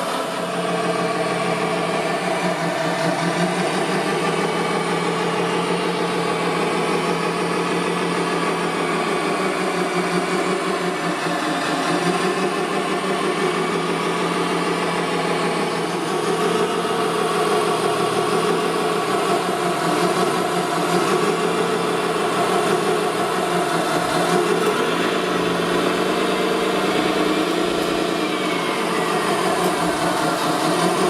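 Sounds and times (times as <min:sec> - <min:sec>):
model vehicle motor whine: 0:00.8 - 0:31.0.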